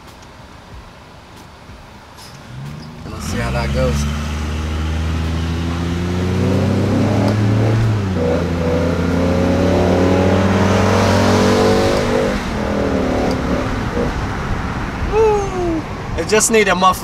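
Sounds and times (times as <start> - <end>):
car engine accelerating: 1.8 - 16.4.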